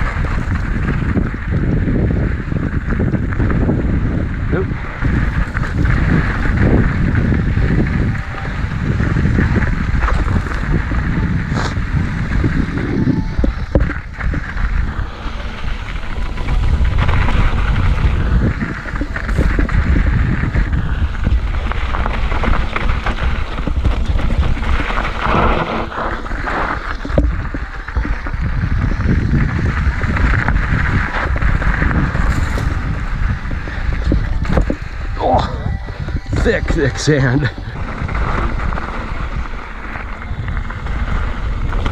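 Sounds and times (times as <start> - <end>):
bike tyres crunching on rocky trail: 0.0 - 41.9
wind buffeting microphone: 0.0 - 41.9.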